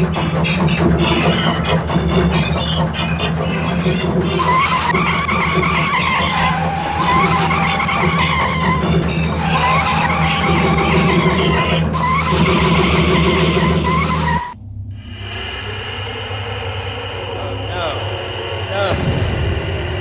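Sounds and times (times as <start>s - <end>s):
car tyres screeching: 0.0s - 20.0s
low engine rumble: 0.0s - 20.0s.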